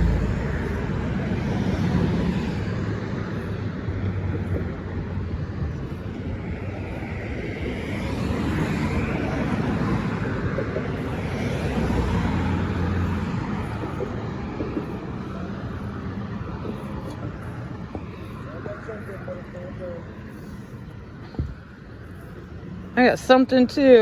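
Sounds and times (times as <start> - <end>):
vehicle passing: 0.0 - 21.2.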